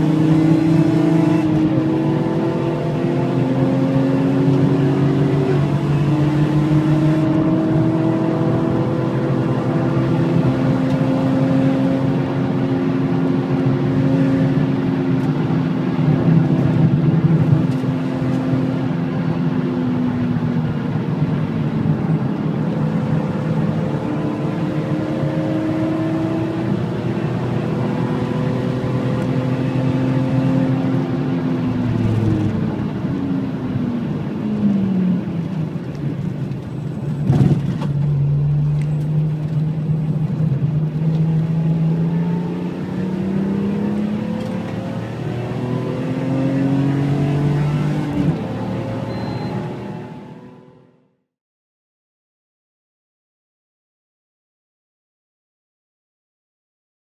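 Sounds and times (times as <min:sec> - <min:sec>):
engine downshifting: 0:00.0 - 0:50.8
car engine at high revs: 0:00.0 - 0:51.2
road and wind noise: 0:00.0 - 0:51.2.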